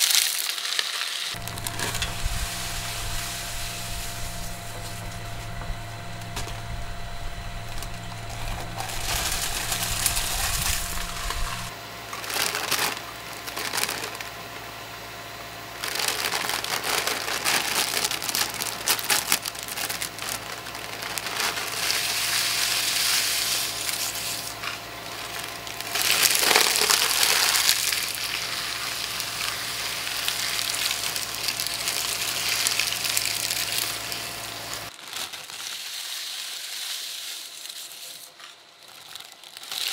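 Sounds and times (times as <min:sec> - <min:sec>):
plastic bag crinkling: 0:00.0 - 0:14.4, 0:15.8 - 0:36.8, 0:37.6 - 0:39.9
shredder blades crunching snacks: 0:00.0 - 0:14.7, 0:15.4 - 0:39.9
shredder motor hum: 0:01.4 - 0:34.9.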